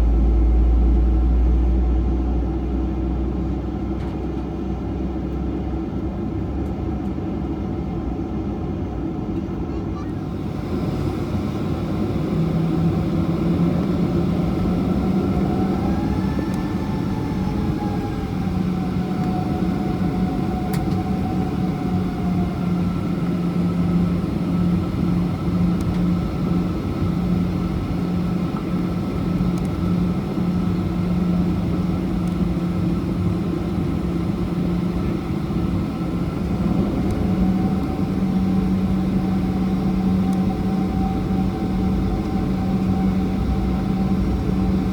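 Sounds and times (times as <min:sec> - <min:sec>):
airplane cabin hum and rush: 0:00.0 - 0:44.9.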